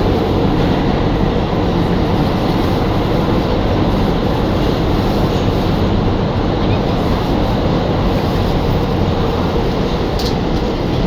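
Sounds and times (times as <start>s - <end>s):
subway wheels rumbling on rail: 0.0s - 11.0s.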